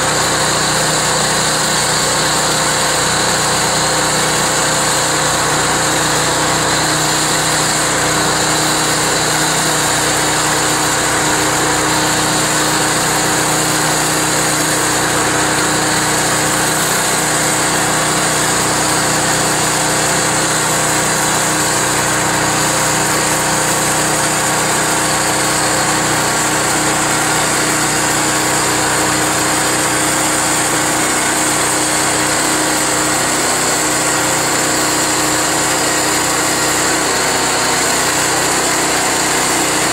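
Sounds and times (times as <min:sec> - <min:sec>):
bandsaw mill gas engine running: 0:00.0 - 0:39.9.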